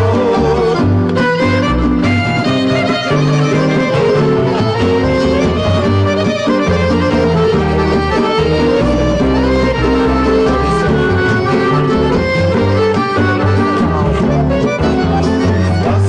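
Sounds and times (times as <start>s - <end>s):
plucked strings folk music: 0.0s - 16.0s.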